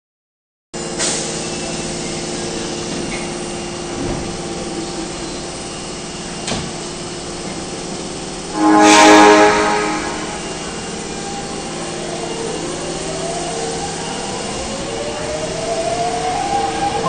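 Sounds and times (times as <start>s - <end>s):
train hum and hiss: 0.8s - 17.0s.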